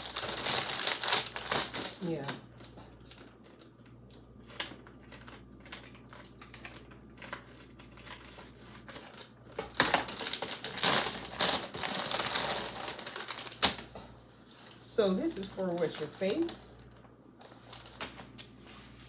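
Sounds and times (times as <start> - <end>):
plastic bag crinkling: 0.0 - 18.6.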